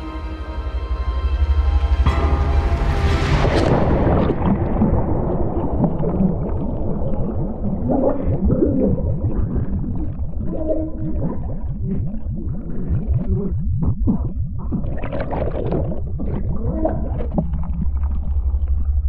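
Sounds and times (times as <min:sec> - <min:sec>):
underwater bubbling and gurgling: 0:03.6 - 0:19.0.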